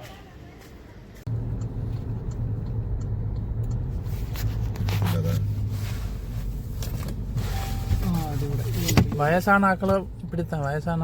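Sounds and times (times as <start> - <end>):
car engine running: 1.3 - 11.0.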